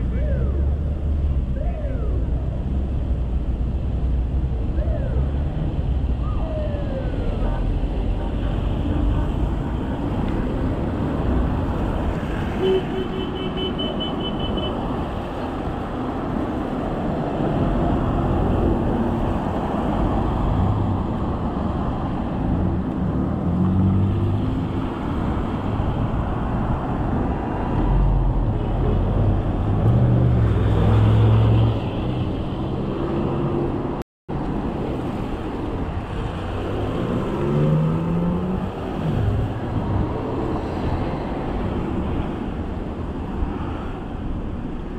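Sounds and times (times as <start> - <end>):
car engines passing: 0.0 - 44.9
road traffic rushing: 0.0 - 44.9.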